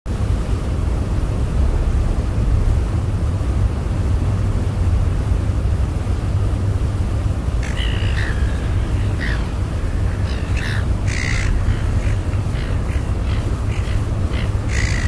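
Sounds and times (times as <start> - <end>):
low rumble: 0.3 - 15.0.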